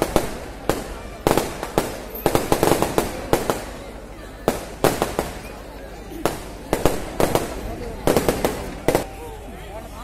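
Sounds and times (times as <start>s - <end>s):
firecrackers cracking: 0.0s - 9.2s.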